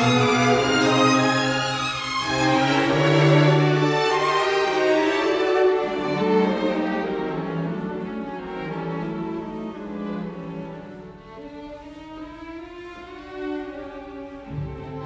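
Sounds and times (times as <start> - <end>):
slow bowed-string music: 0.0 - 15.0.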